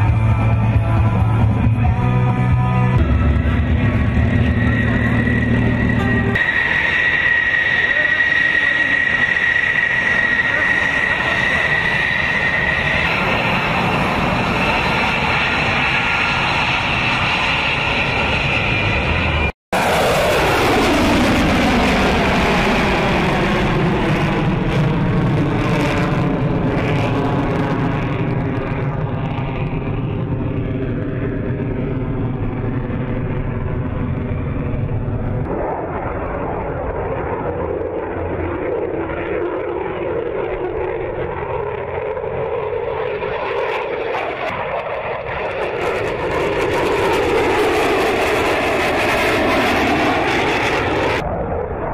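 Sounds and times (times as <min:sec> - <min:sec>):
jet engines flying past: 0:00.0 - 0:51.9
low jet drone: 0:00.0 - 0:51.9.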